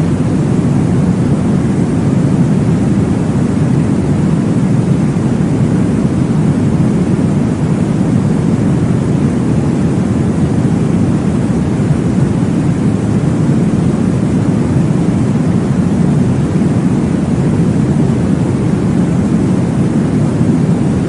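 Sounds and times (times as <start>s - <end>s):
deep white noise: 0.0s - 21.0s.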